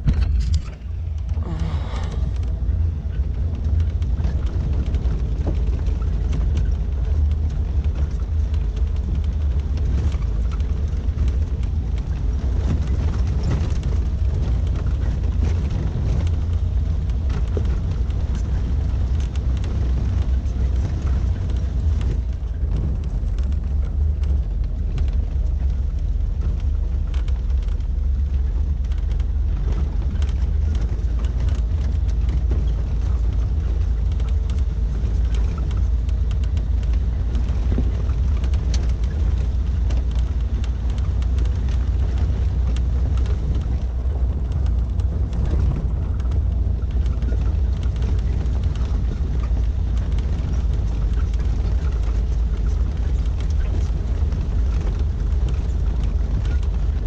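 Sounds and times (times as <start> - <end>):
small knocks and rattles: 0.0 - 57.0
vehicle engine and road rumble: 0.0 - 57.0.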